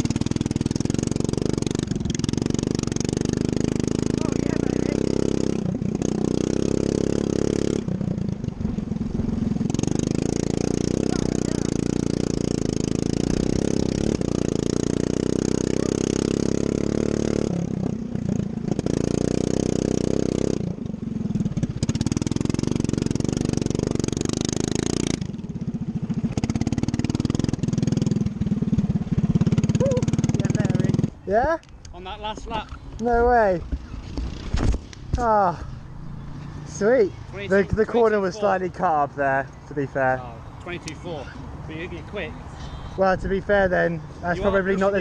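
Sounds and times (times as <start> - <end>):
lawn mower engine revving: 0.0 - 31.3, 33.0 - 42.3.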